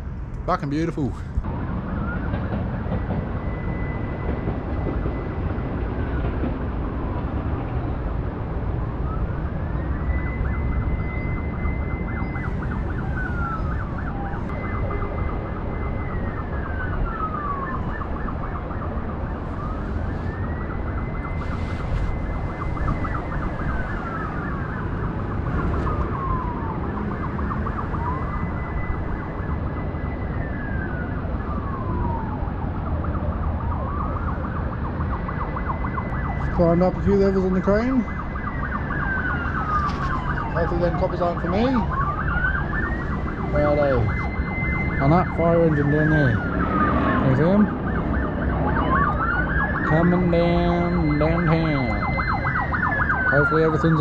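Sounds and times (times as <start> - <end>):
fire engine siren wailing: 0.0 - 54.0.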